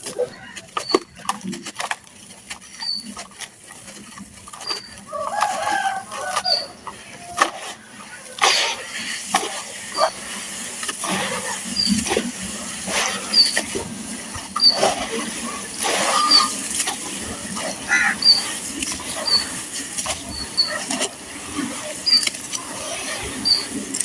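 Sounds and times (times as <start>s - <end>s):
gritty chunks crunching in water: 0.0s - 24.0s.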